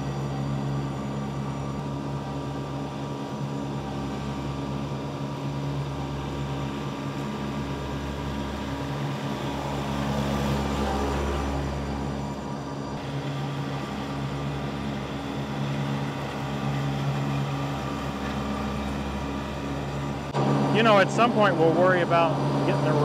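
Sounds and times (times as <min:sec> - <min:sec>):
tractor diesel engine mowing: 0:00.0 - 0:23.0.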